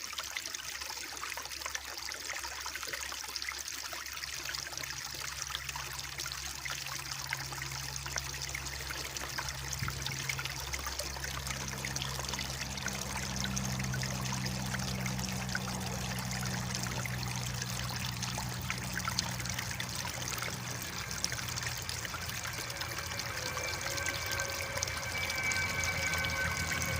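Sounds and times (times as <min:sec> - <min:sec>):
stream babbling over stones: 0:00.0 - 0:26.9
faint low hum: 0:05.2 - 0:26.9.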